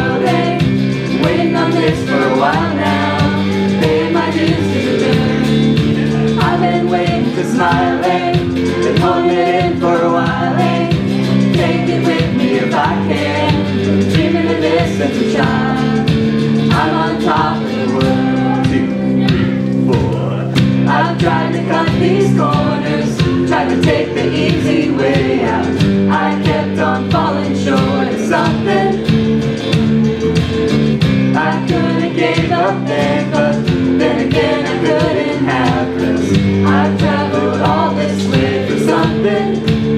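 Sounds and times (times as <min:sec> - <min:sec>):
lead singer singing: 0:00.0 - 0:19.7, 0:20.5 - 0:29.3, 0:31.3 - 0:39.9
audience singing along: 0:00.0 - 0:19.8, 0:20.6 - 0:39.9
live band with guitars: 0:00.0 - 0:39.9.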